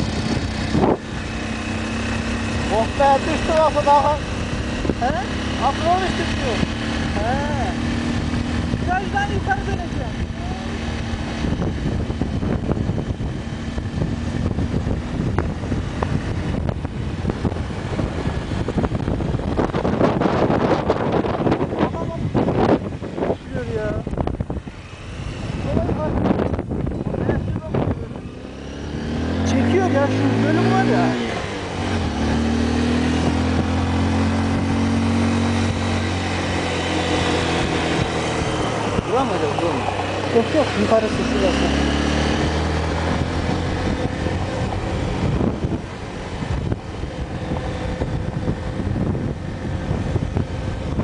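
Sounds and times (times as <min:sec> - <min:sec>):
motorcycle engine running: 0:00.0 - 0:51.0
road noise: 0:00.0 - 0:51.0
wind buffeting microphone: 0:00.0 - 0:51.0.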